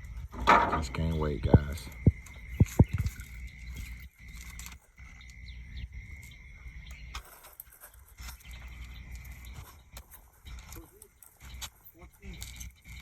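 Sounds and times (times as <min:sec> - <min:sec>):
faint bird chirps: 0:01.6 - 0:07.4, 0:08.0 - 0:13.0.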